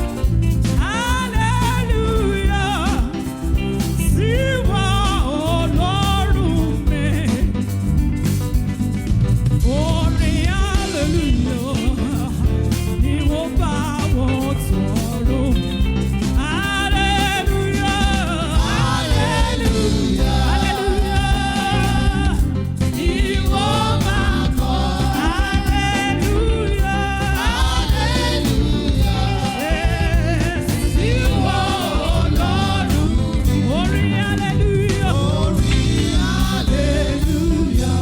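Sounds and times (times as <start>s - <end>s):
person singing with vibrato: 0.0s - 8.0s, 9.6s - 38.0s
band playing steady beat: 0.0s - 38.0s.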